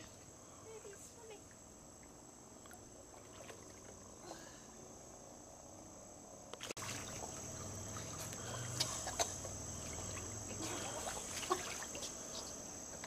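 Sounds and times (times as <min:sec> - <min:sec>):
small water sounds: 0:00.0 - 0:05.9, 0:06.5 - 0:13.0
insect chorus: 0:00.0 - 0:13.0
low hum: 0:01.4 - 0:13.0.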